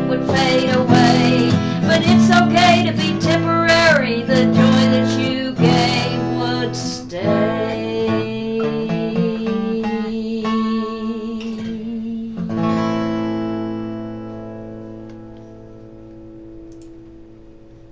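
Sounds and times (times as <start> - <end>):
acoustic guitar playing: 0.0 - 17.9.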